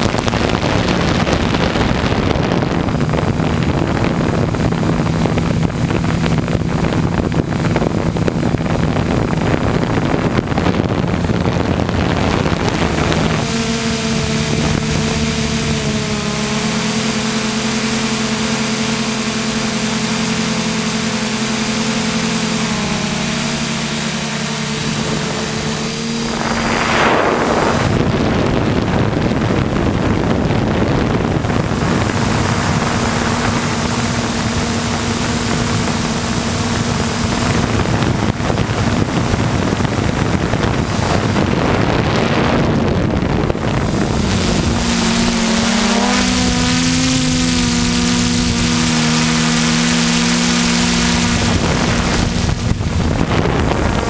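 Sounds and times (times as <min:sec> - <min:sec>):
drone motors humming: 0:00.0 - 0:54.0
wind on microphone: 0:00.0 - 0:54.0.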